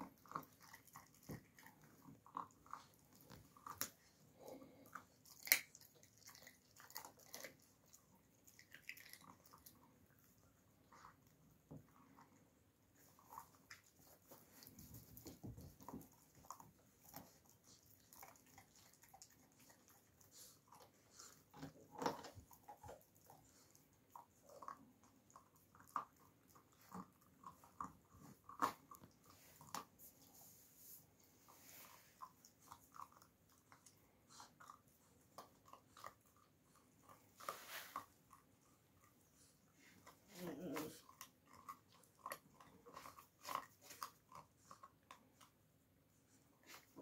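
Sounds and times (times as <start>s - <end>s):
puppy chewing raw meat: 0.0s - 30.5s, 31.2s - 47.0s.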